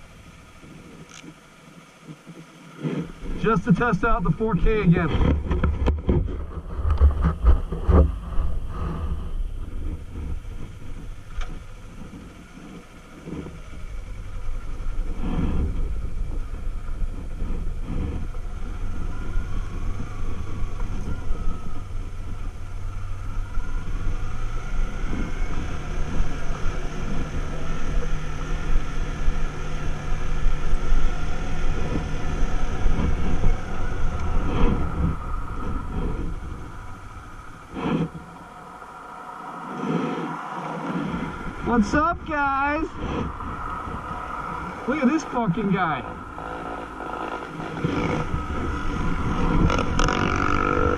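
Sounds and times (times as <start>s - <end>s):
motorcycle engine running: 0.0s - 40.1s, 40.8s - 50.9s.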